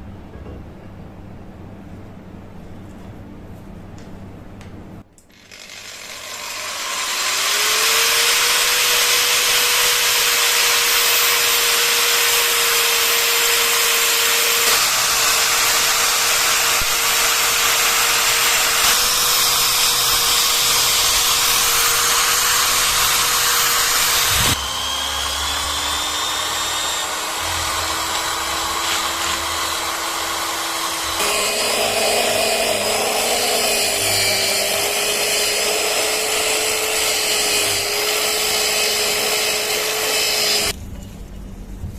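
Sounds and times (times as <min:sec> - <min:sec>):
electric power tool running: 0:05.2 - 0:40.8.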